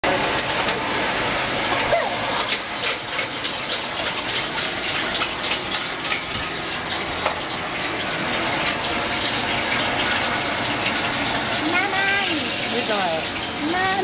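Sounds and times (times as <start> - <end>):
gas burner rushing: 0.0 - 14.0.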